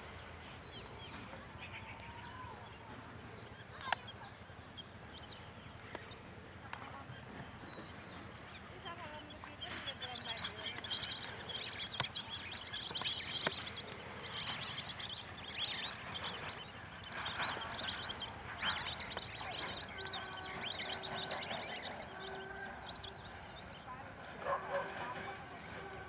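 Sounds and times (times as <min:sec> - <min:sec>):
ducks whistling calls: 0:03.3 - 0:25.2.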